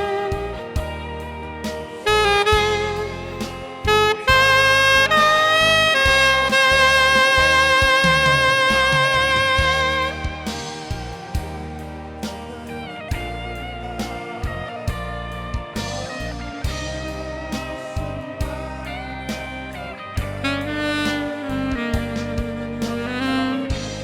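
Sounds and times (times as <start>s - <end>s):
backing track: 0.0s - 24.0s
saxophone ballad melody: 0.0s - 24.0s.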